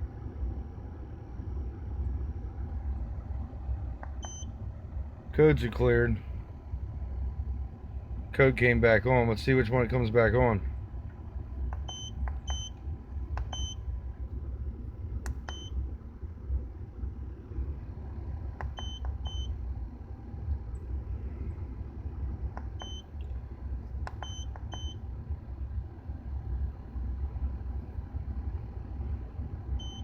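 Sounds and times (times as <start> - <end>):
engine running rumble: 0.0 - 30.0.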